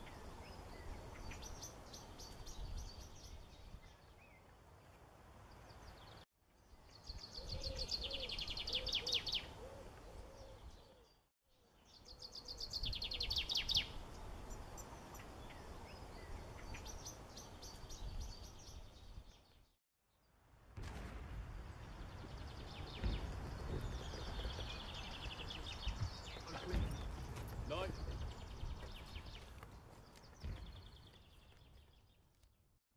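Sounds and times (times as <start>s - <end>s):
songbirds trilling and chirping: 0.0s - 20.3s, 21.7s - 32.5s
low rumble of outdoor noise: 0.0s - 32.4s.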